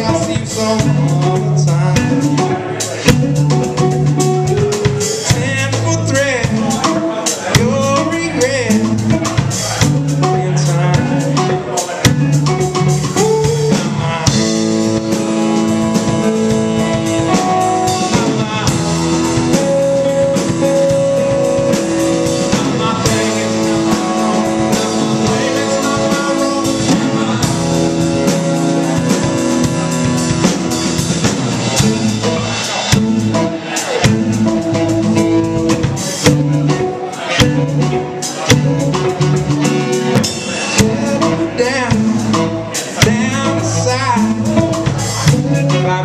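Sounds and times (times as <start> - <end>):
drum kit: 0.0 - 46.0
electric bass: 0.0 - 46.0
electric guitar: 0.0 - 46.0.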